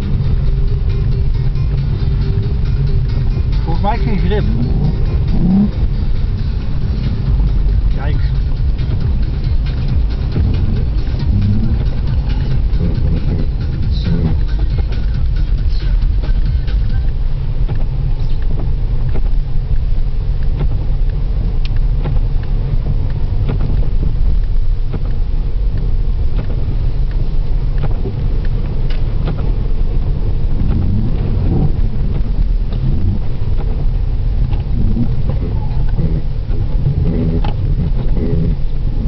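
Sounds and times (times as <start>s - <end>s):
engine and tyre rumble: 0.0s - 39.0s.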